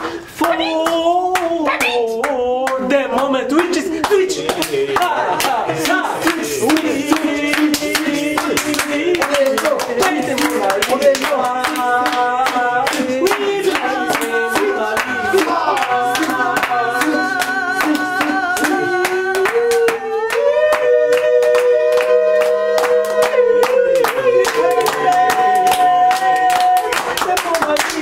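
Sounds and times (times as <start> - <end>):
rhythmic hand clapping: 0.0 - 28.0
voices singing held notes: 0.0 - 28.0.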